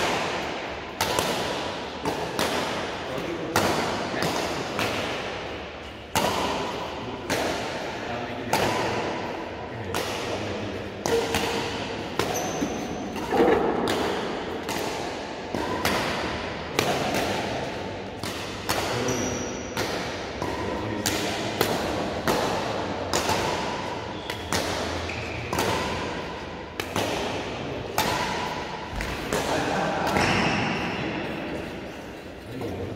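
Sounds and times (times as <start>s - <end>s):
rackets hitting shuttlecock: 0.0s - 32.8s.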